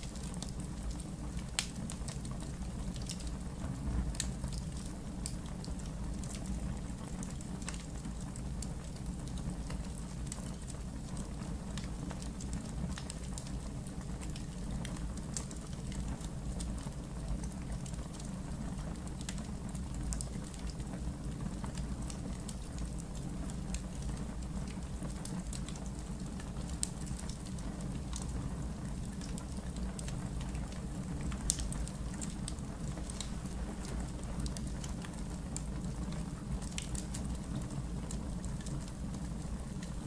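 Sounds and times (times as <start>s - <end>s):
pops and snaps of burning logs: 0.0s - 3.4s, 4.1s - 6.5s, 8.6s - 18.3s, 18.9s - 40.0s
wood fire crackling: 0.0s - 40.0s.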